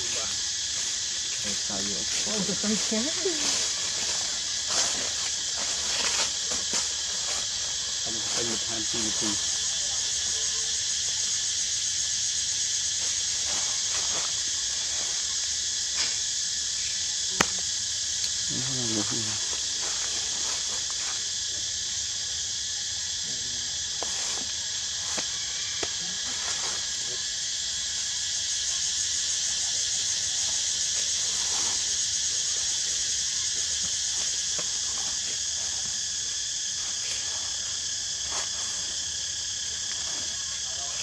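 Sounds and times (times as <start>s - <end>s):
insect chorus drone: 0.0s - 41.0s.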